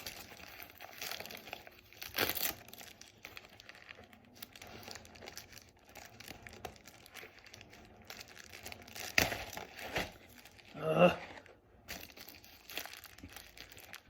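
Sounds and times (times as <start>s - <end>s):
packaging crinkling and tearing: 0.0s - 14.0s
packaging ripping: 0.0s - 14.0s.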